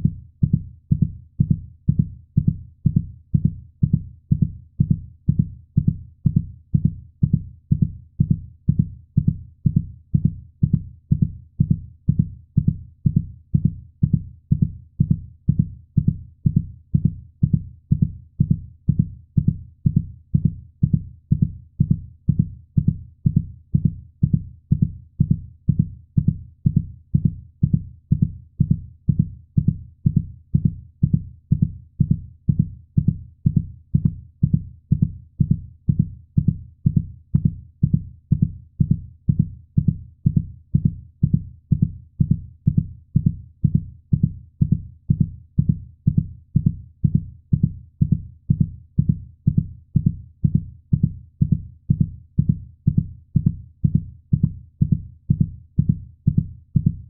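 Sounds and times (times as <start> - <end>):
heartbeat thuds: 0.0 - 57.0.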